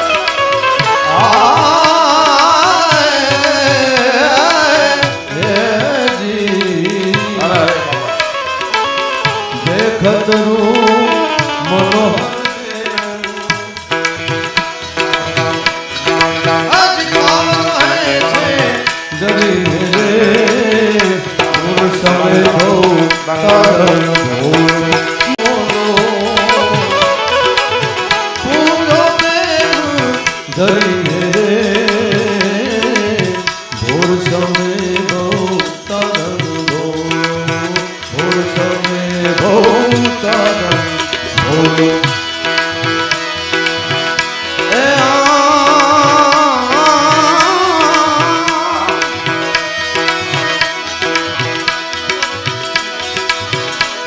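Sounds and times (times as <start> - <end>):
busy drum accompaniment: 0.0 - 54.0.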